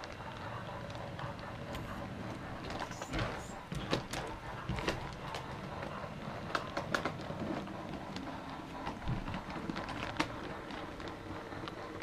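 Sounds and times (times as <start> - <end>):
model train running on track: 0.0 - 12.0
wheels clicking over rail joints: 0.0 - 12.0.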